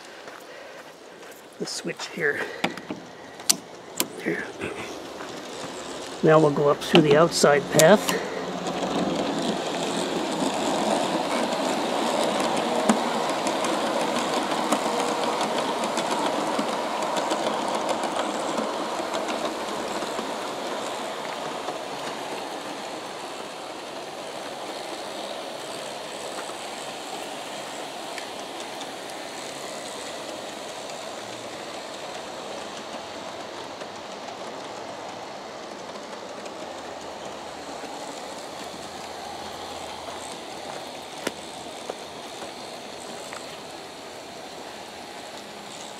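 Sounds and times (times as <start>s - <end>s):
model train wheels rolling on rail: 0.0s - 45.9s.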